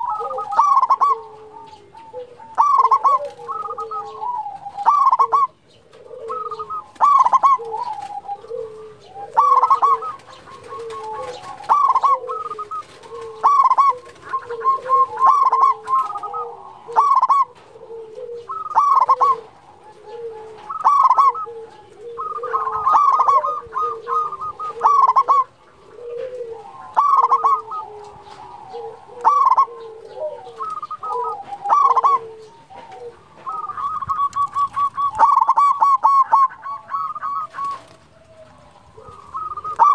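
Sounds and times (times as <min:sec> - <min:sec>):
dove loud cooing: 0:00.0 - 0:39.9
low quiet cooing: 0:00.0 - 0:39.9.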